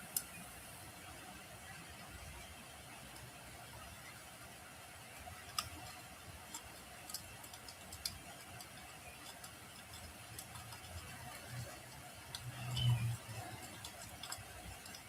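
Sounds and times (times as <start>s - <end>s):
wood fire crackling: 2.9s - 15.0s.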